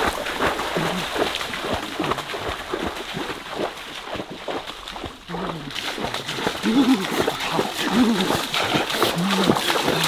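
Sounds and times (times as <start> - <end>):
footsteps splashing through water: 0.0 - 10.0.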